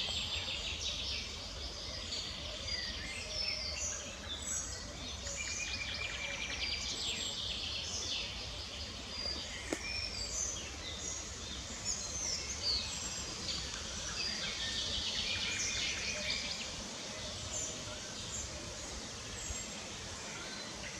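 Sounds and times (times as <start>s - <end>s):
low background noise: 0.0s - 20.9s
small birds chirping: 0.0s - 20.9s.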